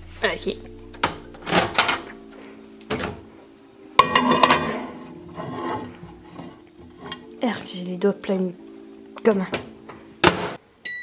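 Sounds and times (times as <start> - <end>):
quiet background music: 0.0 - 10.6.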